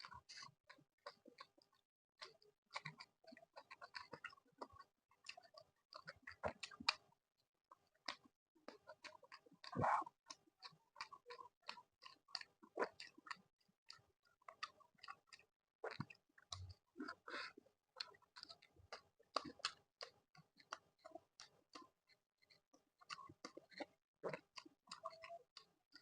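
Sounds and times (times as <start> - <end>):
close chewing mouth sounds: 0.0 - 26.0.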